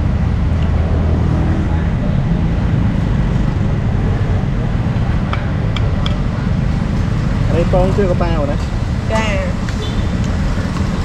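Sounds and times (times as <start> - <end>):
street traffic noise: 0.0 - 11.0
vehicle engine rumbling: 0.0 - 11.0.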